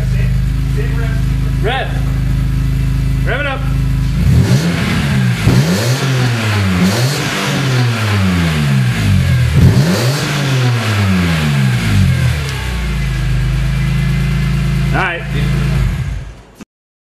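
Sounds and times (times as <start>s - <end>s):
car engine idling: 0.0s - 16.5s
car engine revving: 0.0s - 16.5s.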